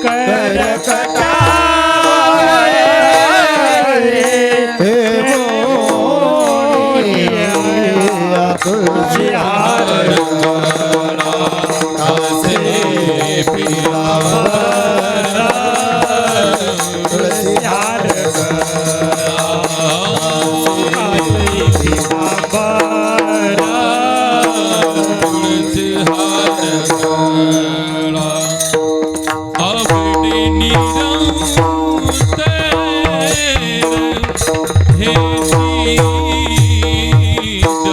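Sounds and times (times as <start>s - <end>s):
ornamented devotional melody: 0.0s - 37.9s.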